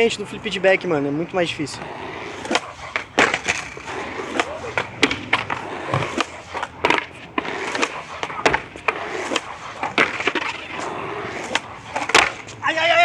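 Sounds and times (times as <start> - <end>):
skateboard wheels rolling: 0.0 - 13.0
skateboard deck clacking on concrete: 1.8 - 13.0.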